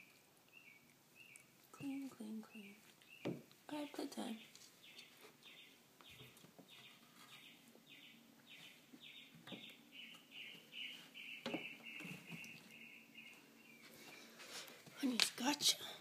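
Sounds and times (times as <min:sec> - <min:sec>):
faint bird chirping: 0:00.0 - 0:14.4.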